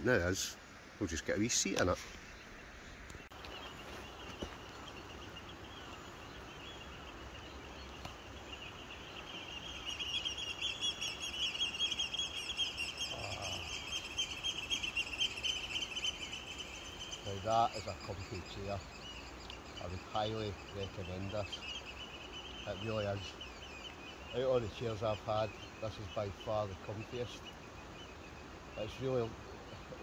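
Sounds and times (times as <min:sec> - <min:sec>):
small bird twittering song: 0:00.0 - 0:30.0.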